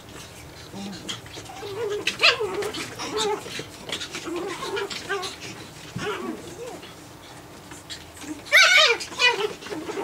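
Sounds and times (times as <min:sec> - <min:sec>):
puppies whining: 0:00.0 - 0:10.0.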